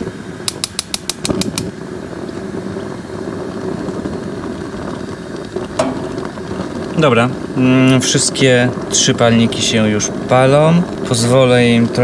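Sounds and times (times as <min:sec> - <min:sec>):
burning gas rushing: 0:00.0 - 0:12.0
grill igniter clicking: 0:00.4 - 0:11.4.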